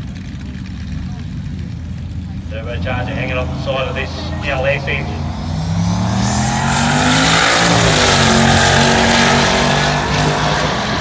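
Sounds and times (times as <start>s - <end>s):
drag car engine accelerating: 0.0s - 11.0s.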